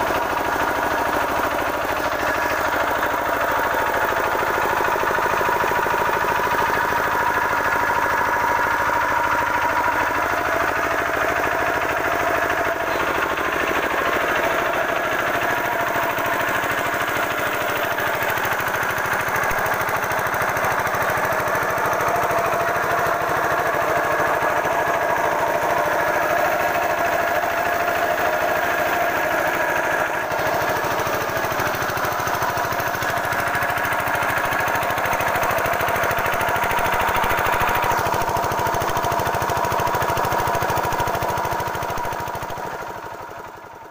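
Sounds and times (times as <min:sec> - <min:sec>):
diesel engine running steadily: 0:00.0 - 0:43.9.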